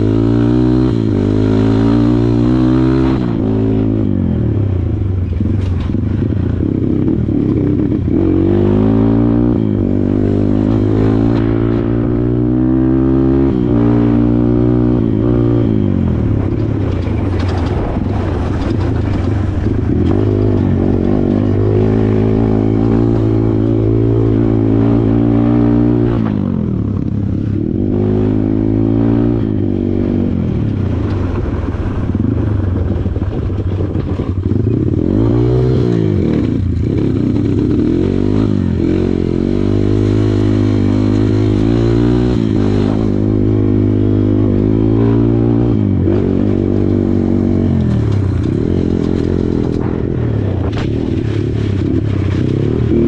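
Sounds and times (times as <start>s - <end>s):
dirt bike engine revving: 0.0s - 4.8s, 5.4s - 31.4s, 34.4s - 53.0s.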